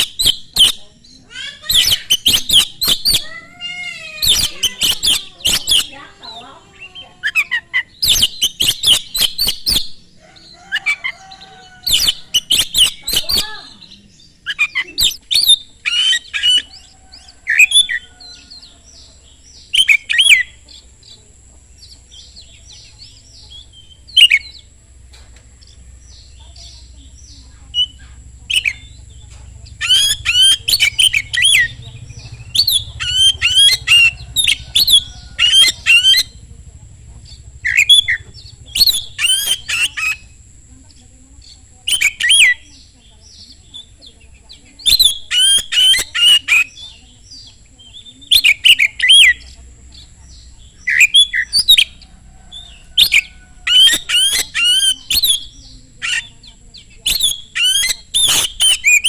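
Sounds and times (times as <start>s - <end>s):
bird singing whistled notes: 1.7s - 3.3s, 4.2s - 10.0s, 11.8s - 21.2s, 21.8s - 24.7s, 25.7s - 36.4s, 37.3s - 40.4s, 41.4s - 44.0s, 44.8s - 59.0s.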